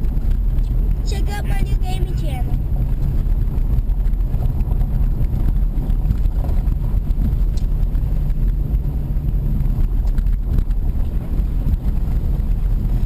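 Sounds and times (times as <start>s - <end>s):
vehicle driving on dirt road: 0.0s - 13.0s
wind on microphone: 0.0s - 13.0s.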